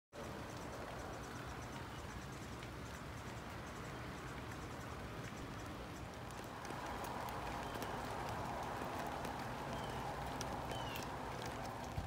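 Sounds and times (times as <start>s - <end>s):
raindrops ticking: 0.2s - 12.0s
steady rain hiss: 0.2s - 12.0s.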